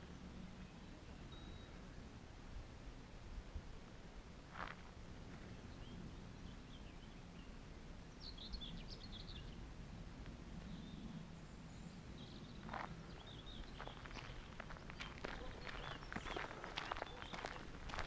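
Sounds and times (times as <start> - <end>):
faint birdsong: 0.0 - 2.2, 4.6 - 18.0.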